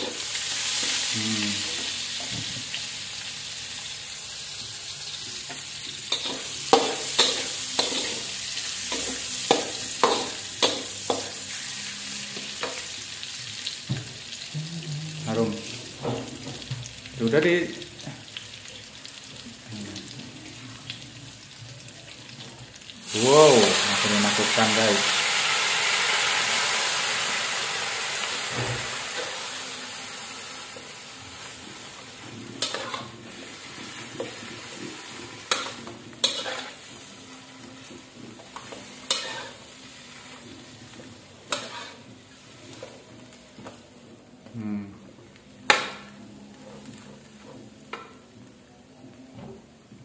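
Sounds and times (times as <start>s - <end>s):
greens sizzling in a wok: 0.0s - 50.0s.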